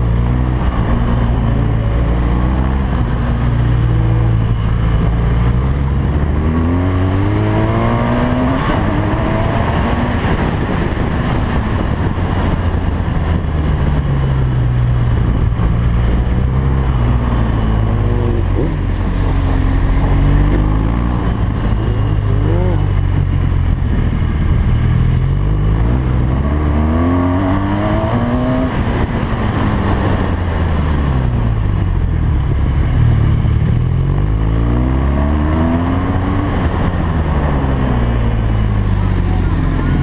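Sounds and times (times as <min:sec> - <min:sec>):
motorcycle engine accelerating: 0:00.0 - 0:40.0
wind noise: 0:00.0 - 0:40.0.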